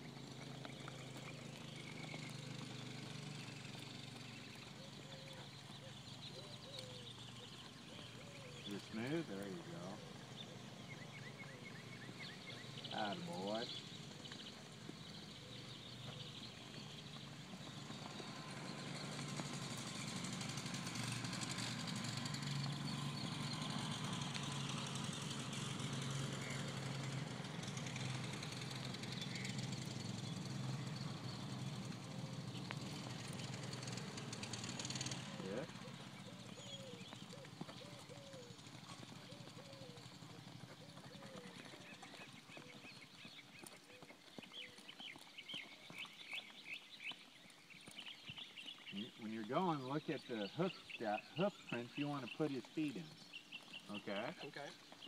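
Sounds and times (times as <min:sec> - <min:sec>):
birds chirping: 0:00.0 - 0:55.0
engine running steadily: 0:00.0 - 0:55.0
horse hooves clopping: 0:00.0 - 0:55.0.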